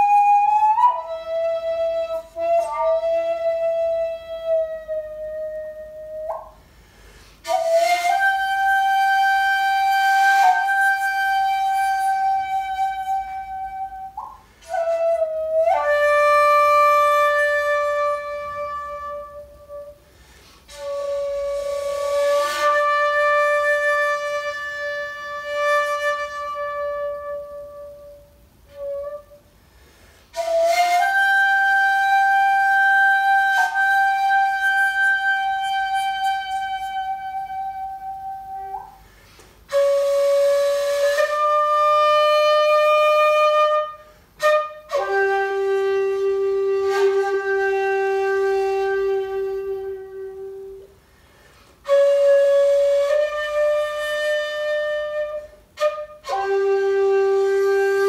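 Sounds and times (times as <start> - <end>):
bamboo flute long notes: 0.0 - 51.0, 51.8 - 58.0.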